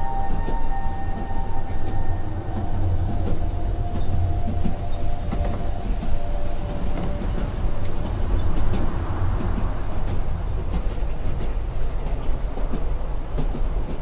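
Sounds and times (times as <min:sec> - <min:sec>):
wheels rumbling on rails: 0:00.0 - 0:14.0.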